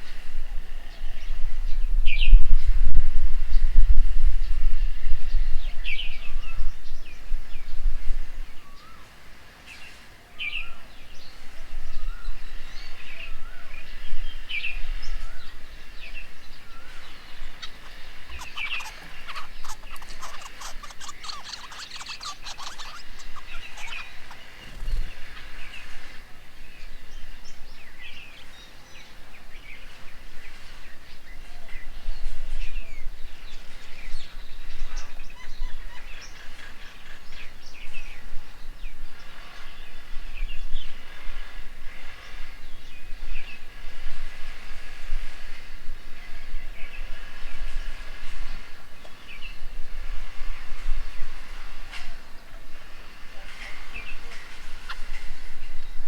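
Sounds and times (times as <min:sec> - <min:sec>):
birds chirping: 0:03.4 - 0:56.0
birds chattering rapidly: 0:04.5 - 0:45.1, 0:45.7 - 0:56.0.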